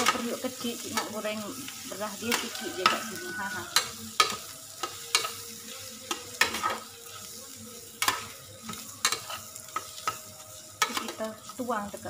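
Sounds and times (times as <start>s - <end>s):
spatula scraping metal pan: 0.0s - 7.4s, 8.0s - 11.6s
rice sizzling in a pan: 0.0s - 12.0s.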